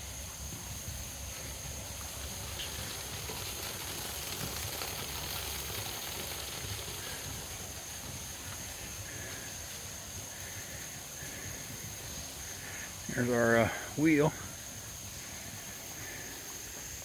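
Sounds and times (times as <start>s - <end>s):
insects calling: 0.0s - 17.0s
outdoor hiss: 0.0s - 17.0s.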